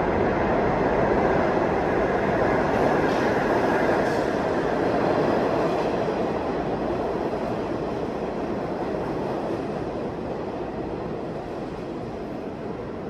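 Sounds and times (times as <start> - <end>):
subway train rail rumble: 0.0 - 13.0.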